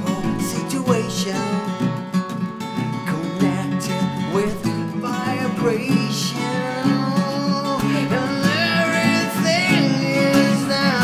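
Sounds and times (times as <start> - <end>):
man singing: 0.0 - 2.0, 2.8 - 11.0
acoustic guitars strumming: 0.0 - 11.0.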